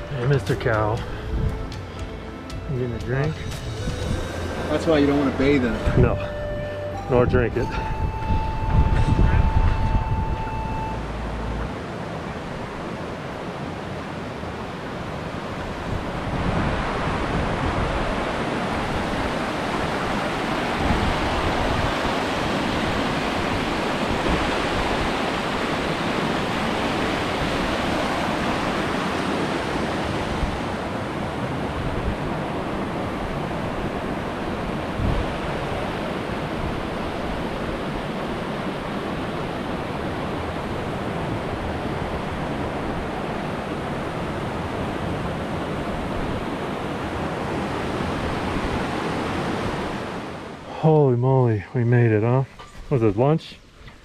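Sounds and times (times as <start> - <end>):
fast-flowing river rushing: 0.0 - 50.7.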